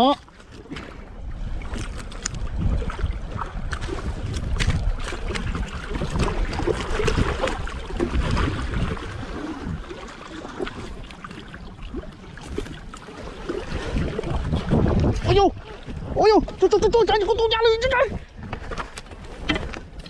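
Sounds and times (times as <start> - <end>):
water lapping and splashing: 0.0 - 20.0
wind rumbling on microphone: 0.0 - 20.0.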